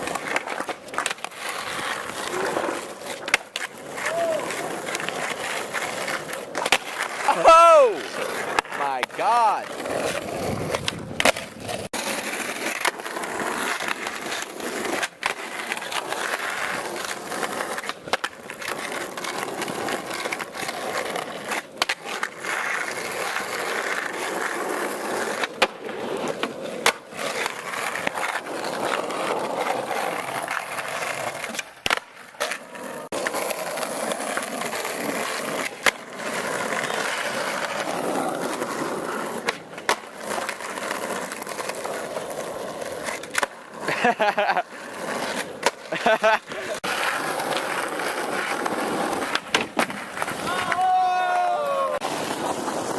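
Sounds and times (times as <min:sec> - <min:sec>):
skateboard clacking on ground: 0:00.0 - 0:52.9
skateboard wheels rolling: 0:00.0 - 0:52.9.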